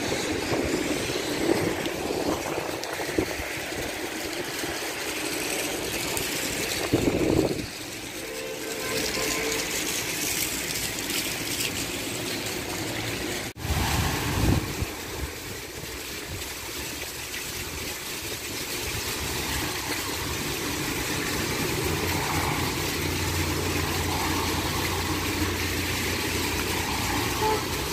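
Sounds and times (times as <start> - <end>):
steady rain: 0.0 - 27.9
water gushing from drainpipe: 0.0 - 27.9.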